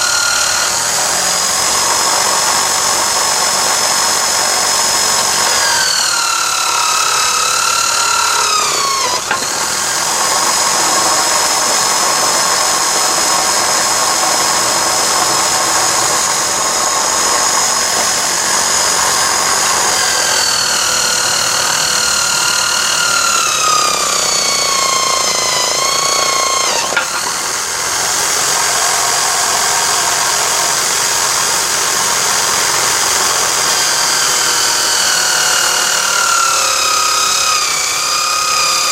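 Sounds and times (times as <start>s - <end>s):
drill click: 0.0s - 38.9s
electric drill motor whining: 0.0s - 38.9s.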